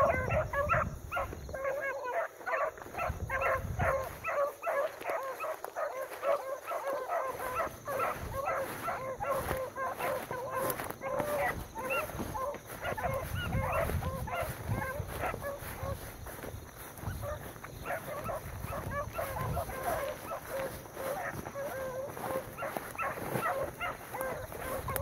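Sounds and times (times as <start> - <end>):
beagles baying: 0.0 - 25.0.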